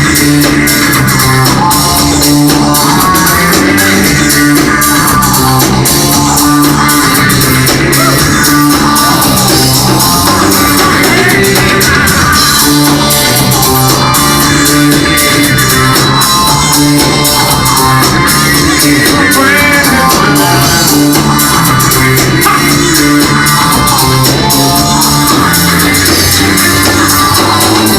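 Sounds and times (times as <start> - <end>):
instrumental rock music: 0.0 - 27.9.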